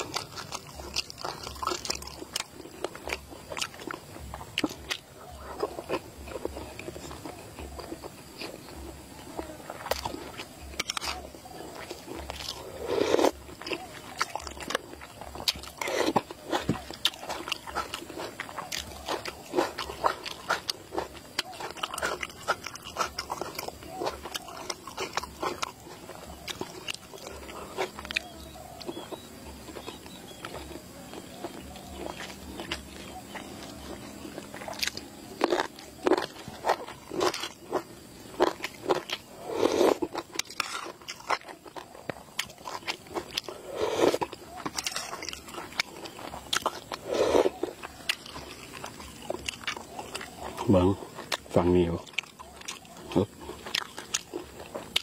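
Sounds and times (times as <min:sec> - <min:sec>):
person chewing with mouth smacks: 0:00.0 - 0:55.0.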